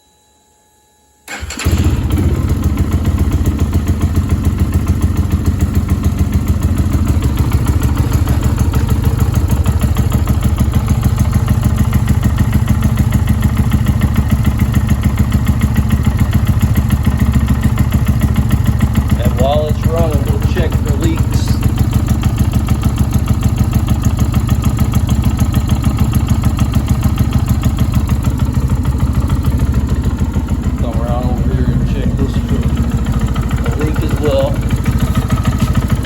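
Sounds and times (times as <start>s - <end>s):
motorcycle engine starting and idling: 1.3s - 36.0s.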